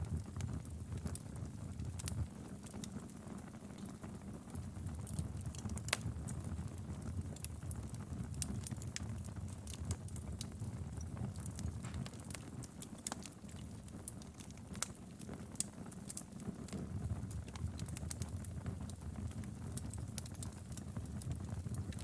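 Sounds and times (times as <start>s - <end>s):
fire crackles and pops: 0.0s - 22.0s
wood fire rumbling: 0.0s - 22.0s.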